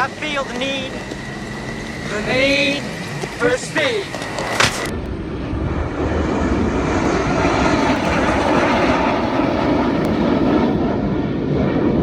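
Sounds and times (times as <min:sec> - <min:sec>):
jet plane flying past: 0:00.0 - 0:12.0.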